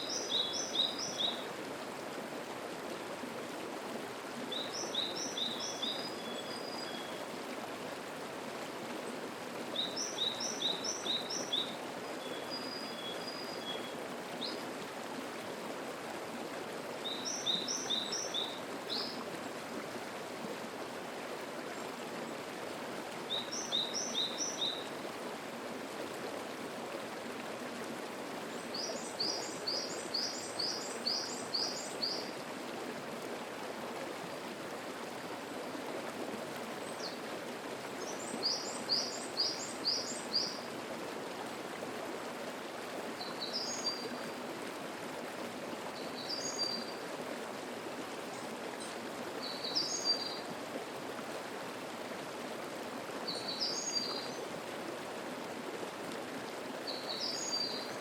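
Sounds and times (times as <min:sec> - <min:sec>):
mountain stream flowing: 0:00.0 - 0:58.0.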